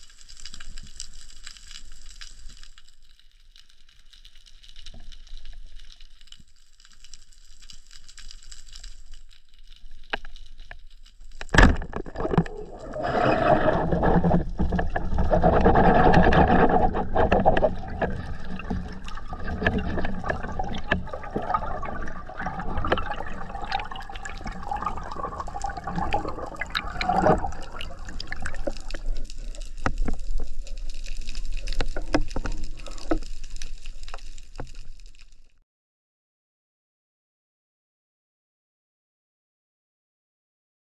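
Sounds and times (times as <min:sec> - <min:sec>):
underwater water noise: 0:00.0 - 0:35.6.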